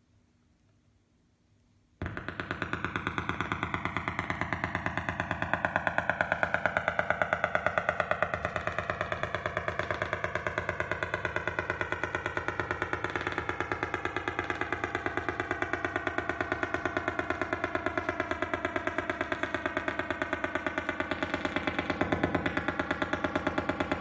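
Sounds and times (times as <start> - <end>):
rapid electronic pulsing tones: 2.0 - 24.0.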